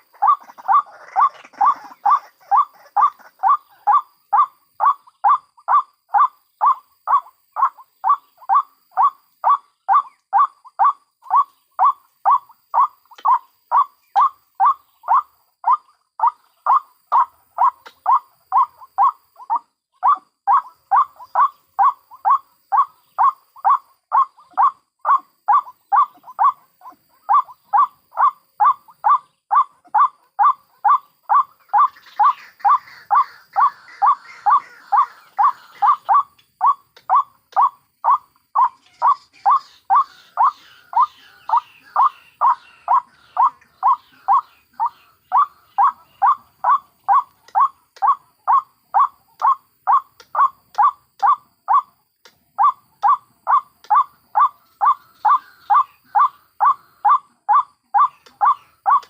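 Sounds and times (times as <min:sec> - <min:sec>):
waterhen calling: 0:00.0 - 0:51.9, 0:52.6 - 0:59.0.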